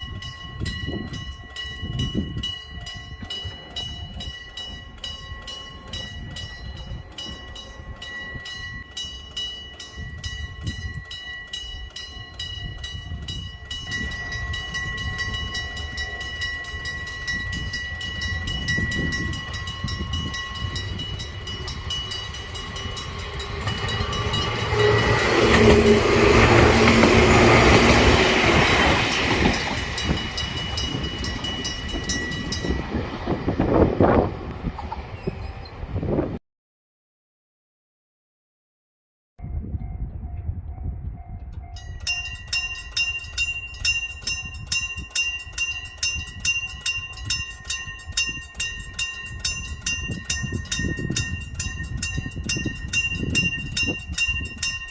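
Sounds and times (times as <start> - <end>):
level crossing warning bell ringing: 0.0 - 33.9, 40.8 - 54.9
electric train passing: 0.0 - 36.4, 39.5 - 54.9.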